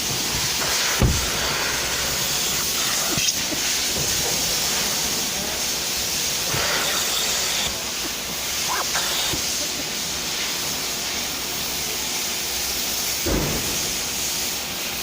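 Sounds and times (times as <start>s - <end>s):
steam cleaner hissing: 0.0s - 15.0s.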